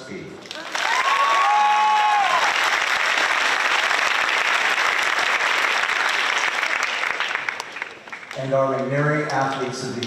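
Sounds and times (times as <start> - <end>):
audience applauding: 0.5 - 9.8.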